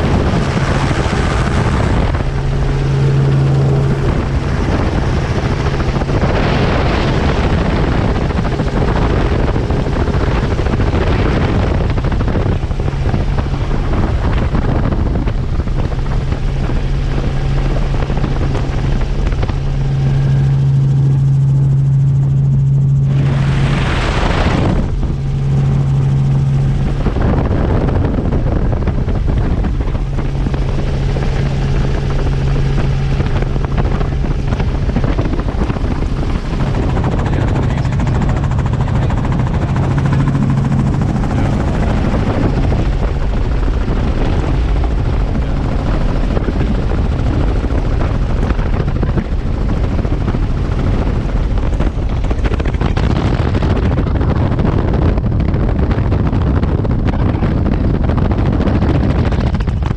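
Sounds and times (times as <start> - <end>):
helicopter rotor and engine: 0.0 - 59.9.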